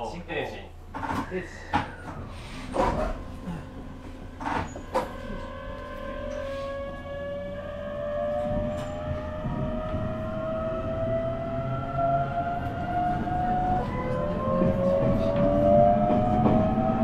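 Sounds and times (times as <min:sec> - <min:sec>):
wheel and rail rumble: 0:00.0 - 0:17.0
electric train motor whine: 0:01.7 - 0:17.0.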